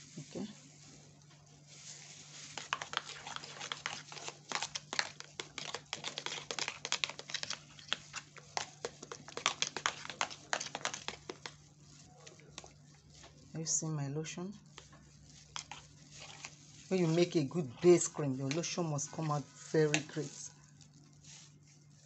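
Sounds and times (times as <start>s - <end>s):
spoon stirring thick lotion: 1.6s - 22.0s.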